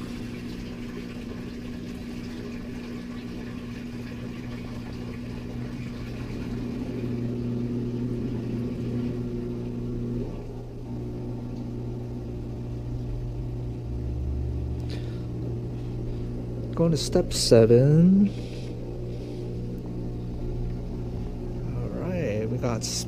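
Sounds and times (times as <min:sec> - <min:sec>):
washer drain pump humming: 0:00.0 - 0:23.0.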